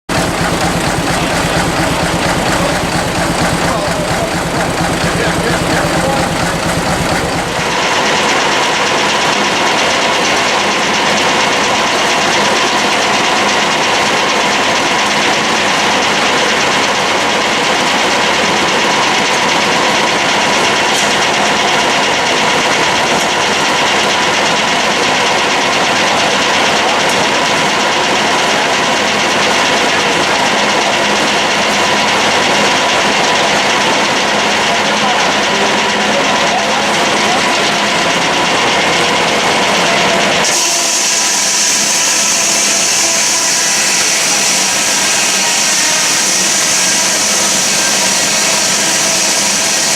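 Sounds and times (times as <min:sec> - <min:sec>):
sawmill mechanical whir: 0:00.1 - 0:49.9
steam engine rhythmic beat: 0:00.1 - 0:49.9.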